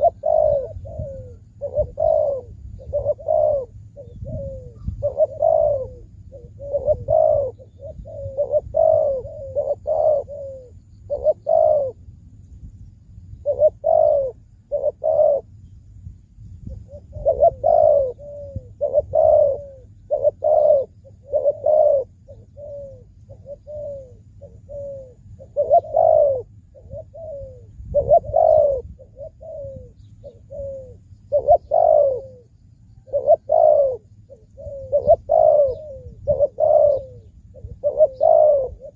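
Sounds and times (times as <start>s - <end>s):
dove cooing: 0.0s - 12.1s, 13.3s - 16.0s, 16.6s - 38.9s.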